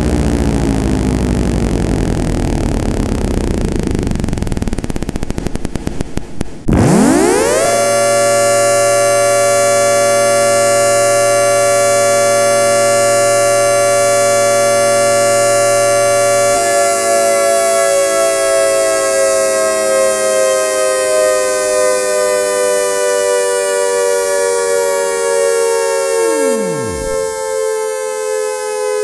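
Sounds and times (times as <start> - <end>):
siren winding and howling: 0.0 - 5.5, 6.7 - 29.0.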